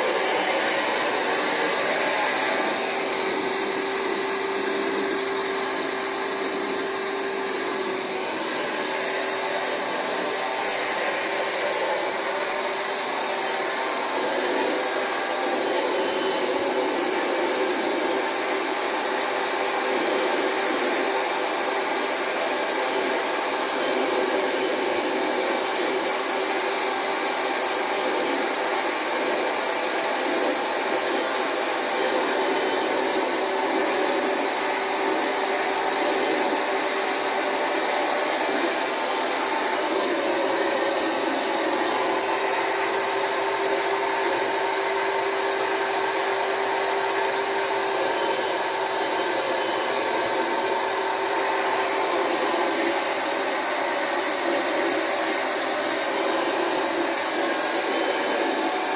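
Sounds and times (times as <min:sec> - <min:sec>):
carpet extractor motor whine: 0:00.0 - 0:58.9
rushing suction noise: 0:00.0 - 0:58.9.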